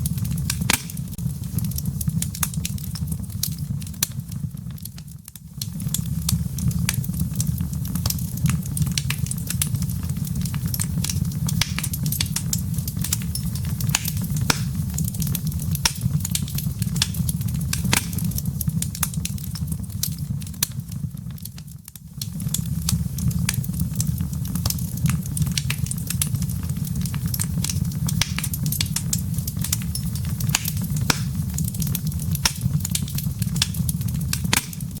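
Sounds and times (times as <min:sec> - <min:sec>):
embers crackling and popping: 0:00.0 - 0:35.0
low rumble of flames: 0:00.0 - 0:35.0.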